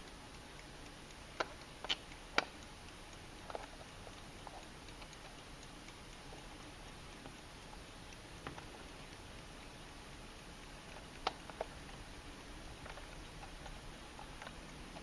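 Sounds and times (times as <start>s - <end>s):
alarm clock ticking: 0.0s - 15.0s.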